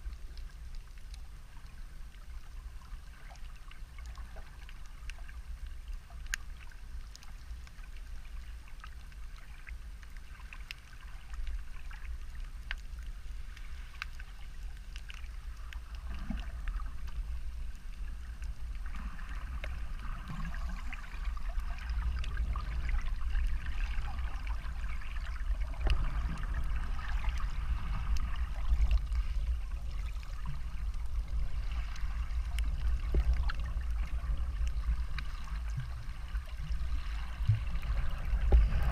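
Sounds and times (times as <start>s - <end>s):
crackling clicks underwater: 0.0s - 38.9s
muffled underwater rumble: 0.0s - 38.9s.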